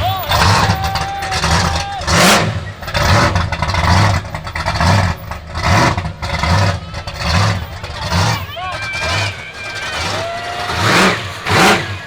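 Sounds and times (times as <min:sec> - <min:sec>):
car engine loping: 0:00.0 - 0:12.0.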